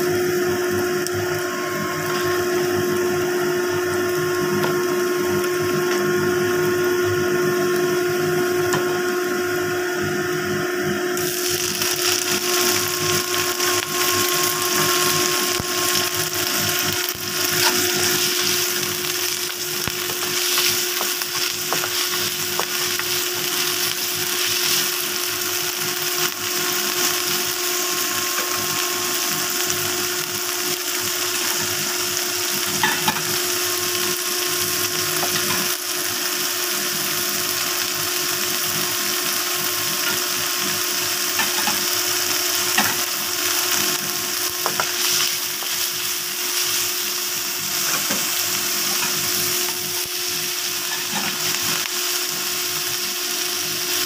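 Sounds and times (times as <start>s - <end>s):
food sizzling in a wok: 0.0s - 54.0s
steady machine hum: 0.0s - 54.0s.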